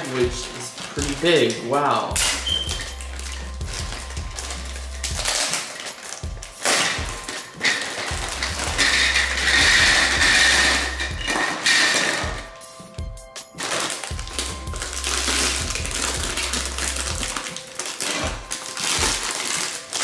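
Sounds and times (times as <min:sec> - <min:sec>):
plastic bag crinkling and rustling: 0:00.0 - 0:12.5, 0:13.5 - 0:20.0.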